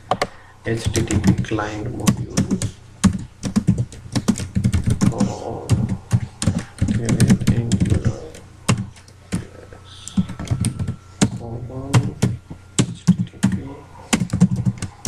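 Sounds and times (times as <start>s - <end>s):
typing on computer keyboard: 2.0s - 9.4s, 10.1s - 15.0s.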